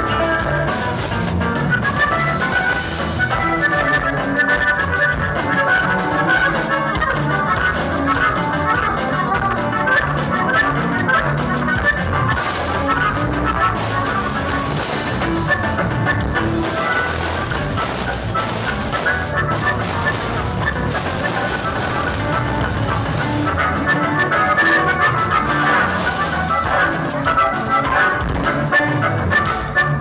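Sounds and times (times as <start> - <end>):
steady drum beat: 0.0 - 29.8
button accordion melody: 0.0 - 30.0
electric bass: 0.0 - 30.0
strummed guitar: 0.0 - 30.0.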